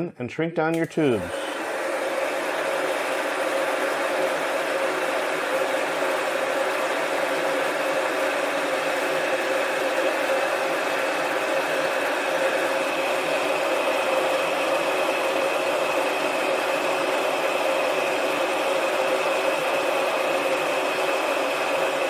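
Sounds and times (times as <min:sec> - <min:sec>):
heat gun blowing with whine: 0:00.8 - 0:22.0.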